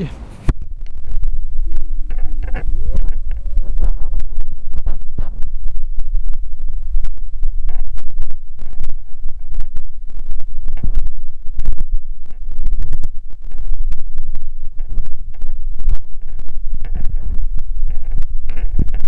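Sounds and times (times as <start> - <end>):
crackles and pops from handling: 0.5 - 19.0.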